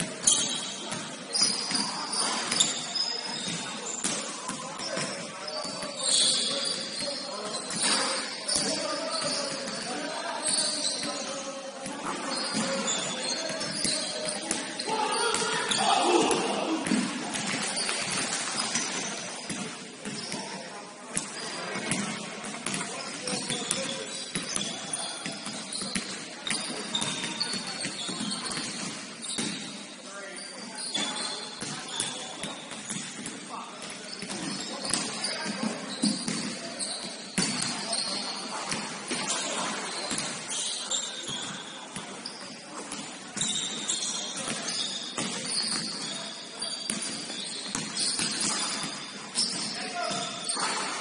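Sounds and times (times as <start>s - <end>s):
murmur of voices: 0.0s - 51.0s
sneakers squeaking on court: 0.0s - 51.0s.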